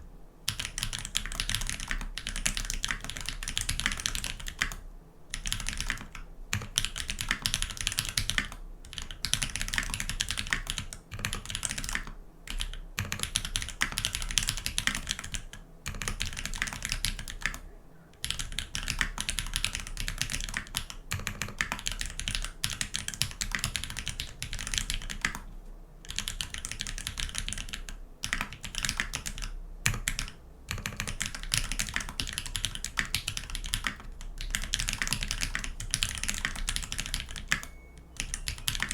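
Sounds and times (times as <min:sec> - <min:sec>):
mechanical keyboard typing: 0:00.5 - 0:17.6, 0:18.2 - 0:38.9.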